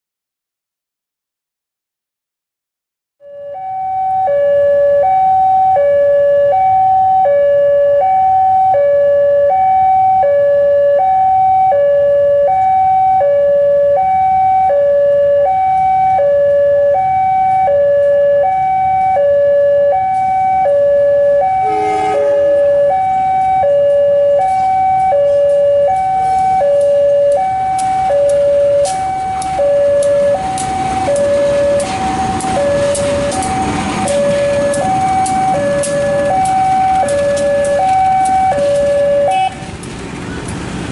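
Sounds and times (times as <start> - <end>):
level crossing two-tone alarm: 3.2 - 39.6
approaching train: 3.3 - 40.9.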